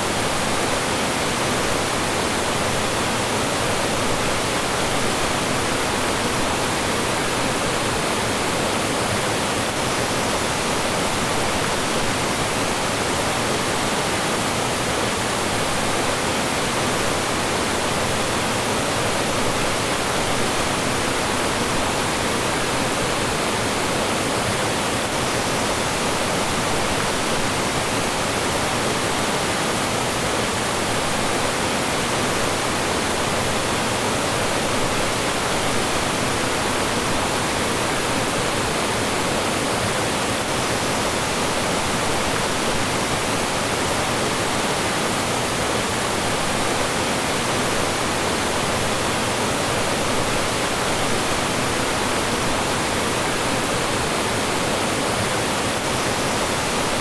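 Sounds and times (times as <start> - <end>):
mountain stream rushing over rocks: 0.0 - 57.0.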